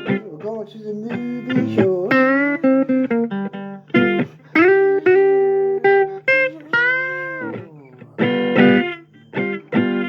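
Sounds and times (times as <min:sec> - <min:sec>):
blues guitar fill: 0:00.0 - 0:10.0.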